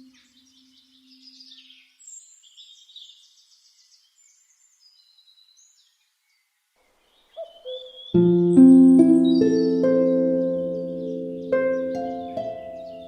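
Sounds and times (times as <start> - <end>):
bird chirps and trills: 0.0 - 13.0.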